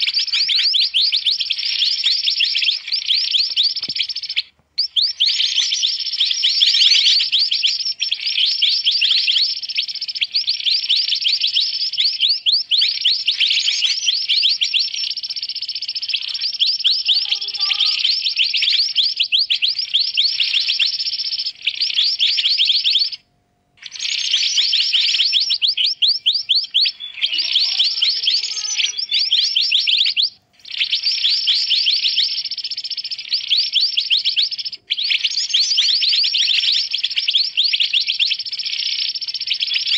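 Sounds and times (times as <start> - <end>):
birds chattering rapid high chirps: 0.0 - 39.9.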